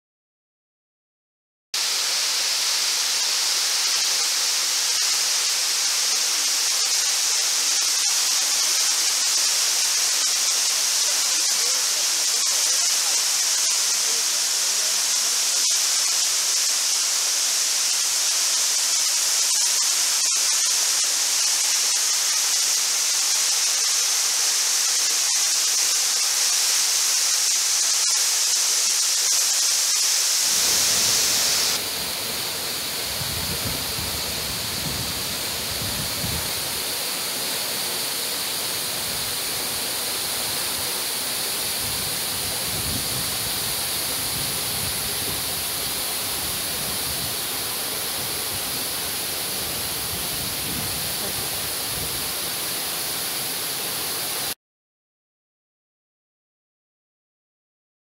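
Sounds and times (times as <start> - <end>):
waterfall rushing: 1.8 - 54.6.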